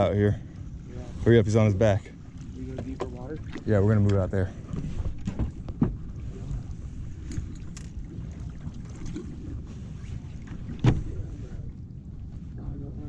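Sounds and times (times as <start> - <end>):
water rumbling against boat hull: 0.0 - 13.0.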